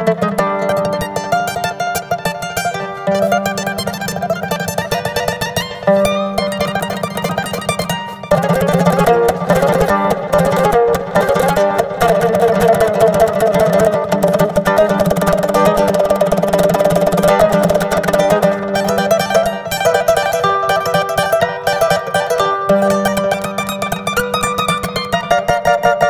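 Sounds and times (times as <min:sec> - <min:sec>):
plucked string instruments: 0:00.0 - 0:26.0.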